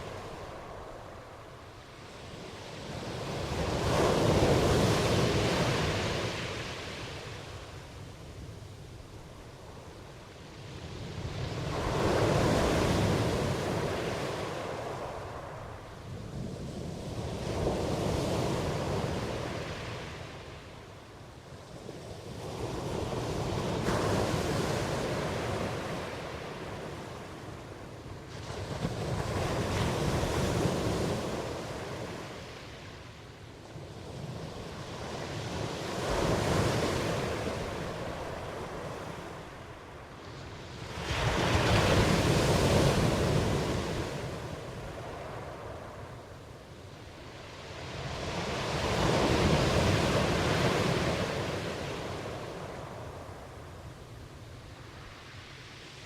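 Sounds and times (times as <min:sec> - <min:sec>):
waves breaking and washing in: 0:00.0 - 0:56.0.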